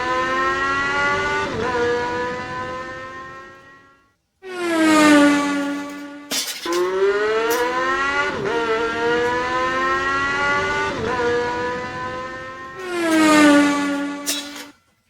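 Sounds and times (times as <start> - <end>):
race car engine accelerating: 0.0 - 14.8.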